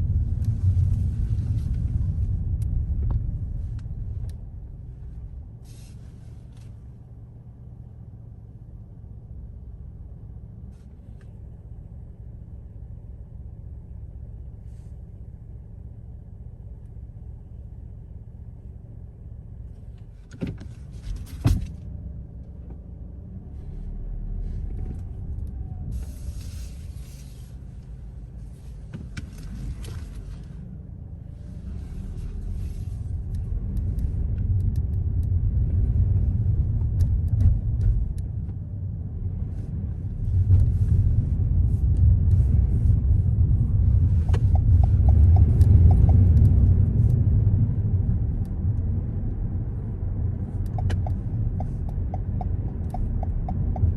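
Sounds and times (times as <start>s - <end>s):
road and engine rumble: 0.0s - 53.9s.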